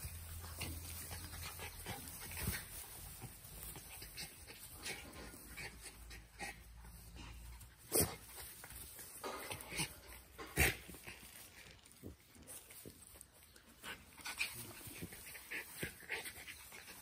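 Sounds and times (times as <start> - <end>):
dogs scuffling: 0.0 - 17.0
small dog noises: 0.0 - 17.0.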